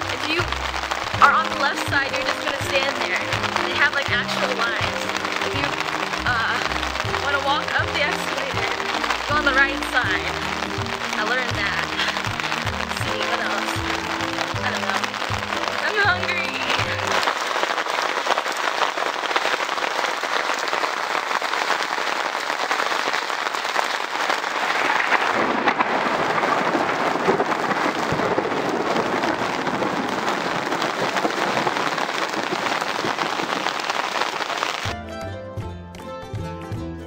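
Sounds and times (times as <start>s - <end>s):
rain on umbrella and pavement: 0.0s - 37.0s.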